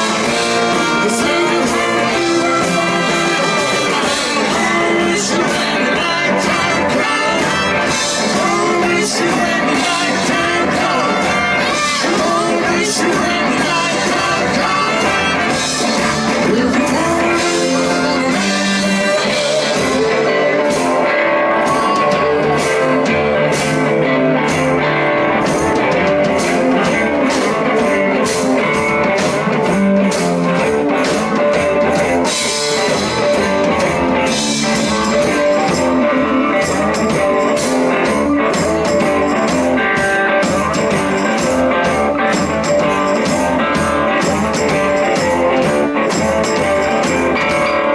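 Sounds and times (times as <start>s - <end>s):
guitar: 0.0s - 47.9s
live blues-rock band: 0.0s - 47.9s
person singing: 0.0s - 47.9s.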